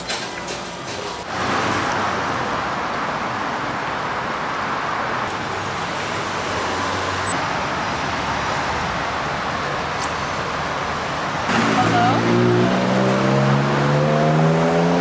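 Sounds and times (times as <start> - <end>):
road traffic rush: 0.0 - 15.0.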